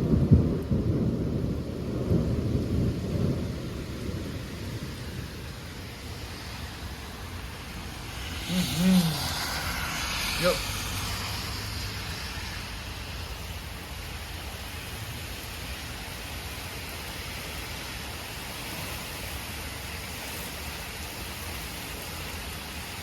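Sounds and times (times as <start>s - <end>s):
heavy rain hissing: 2.0s - 23.0s.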